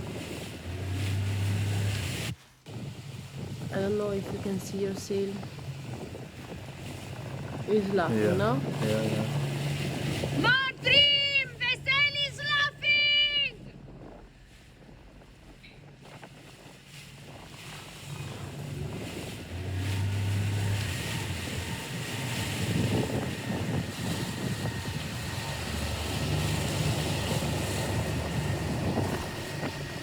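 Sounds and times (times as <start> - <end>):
low engine hum: 0.0 - 30.0
water rushing past boat: 0.0 - 30.0
wind buffeting microphone: 0.0 - 30.0.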